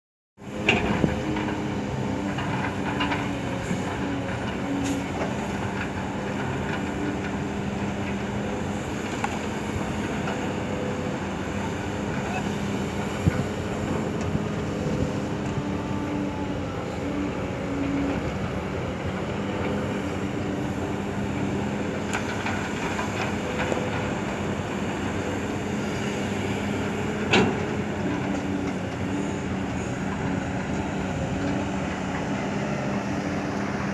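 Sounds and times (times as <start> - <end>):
heavy diesel machinery engines: 0.4 - 33.9.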